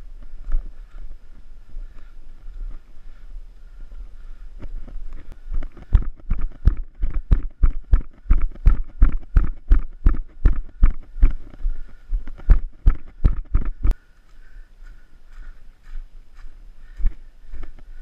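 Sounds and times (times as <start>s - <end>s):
running footsteps on dirt trail: 0.0s - 18.0s.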